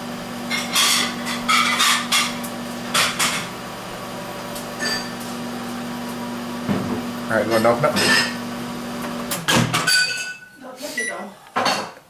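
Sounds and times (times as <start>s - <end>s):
microwave oven humming: 0.0s - 11.6s.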